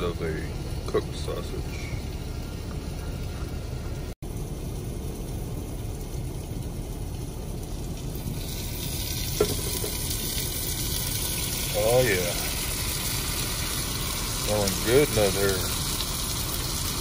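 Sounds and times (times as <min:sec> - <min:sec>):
sausage sizzling in a pan: 0:00.0 - 0:17.0.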